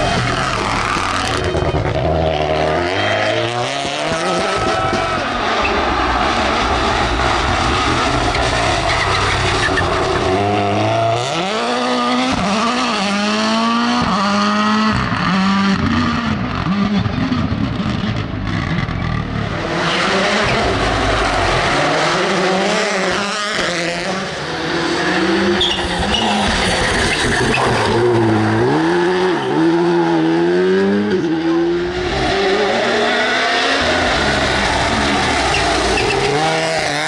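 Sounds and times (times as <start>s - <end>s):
rally car engine accelerating: 0.0s - 37.0s.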